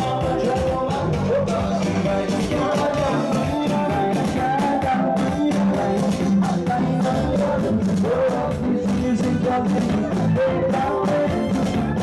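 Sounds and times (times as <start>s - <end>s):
drums: 0.0s - 12.0s
keyboard: 0.0s - 12.0s
man singing into microphone: 0.0s - 12.0s.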